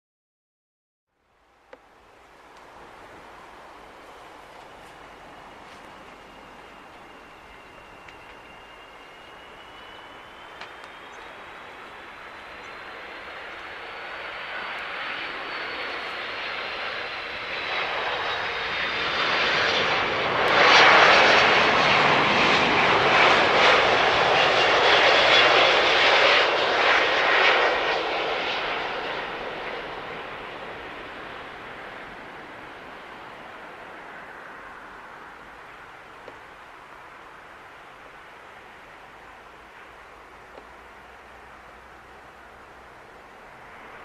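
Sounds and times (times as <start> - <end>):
high engine whine: 1.4 - 44.0
jet airliner passing: 1.9 - 44.0.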